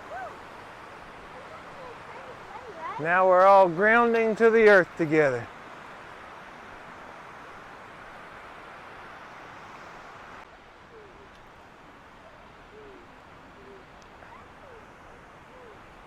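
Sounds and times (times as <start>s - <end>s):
waterfall and stream rushing: 0.0s - 16.0s.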